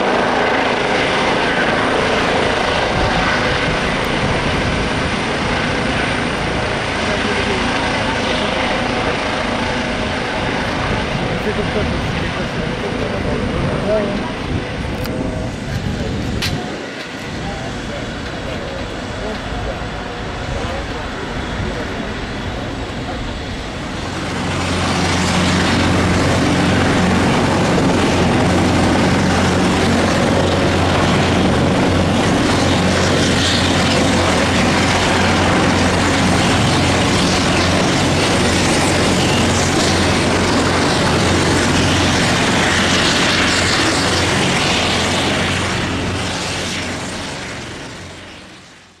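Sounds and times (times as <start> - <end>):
helicopter turbines and rotors: 0.0 - 49.0.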